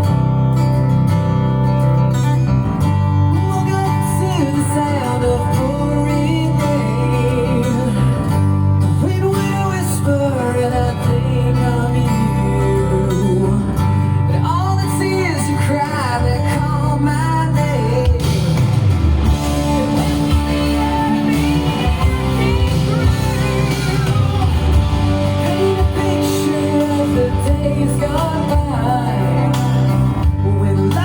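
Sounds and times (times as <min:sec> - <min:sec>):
bass guitar: 0:00.0 - 0:31.0
strummed acoustic guitar: 0:00.0 - 0:31.0
man singing: 0:03.3 - 0:31.0.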